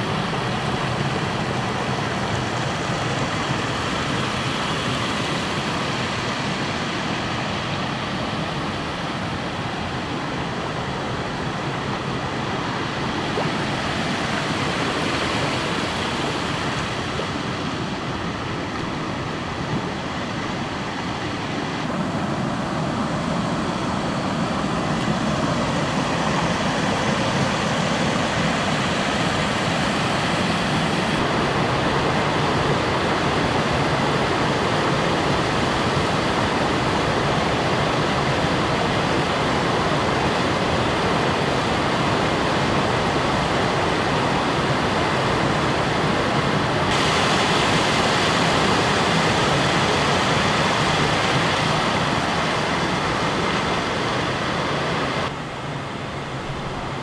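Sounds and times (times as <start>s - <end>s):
water rushing over cascade: 0.0s - 57.0s.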